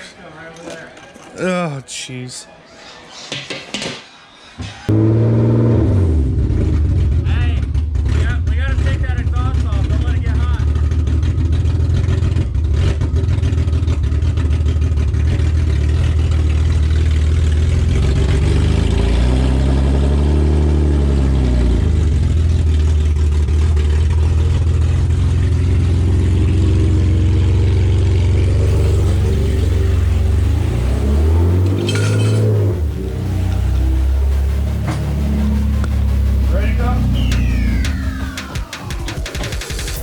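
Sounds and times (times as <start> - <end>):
car engine idling and revving: 4.9 - 40.0.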